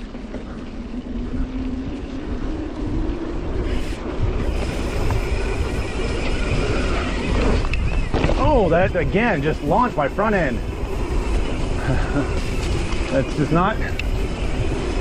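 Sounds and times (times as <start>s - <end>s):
tyres rumbling over dirt: 0.0s - 15.0s
wind buffeting microphone: 0.0s - 15.0s.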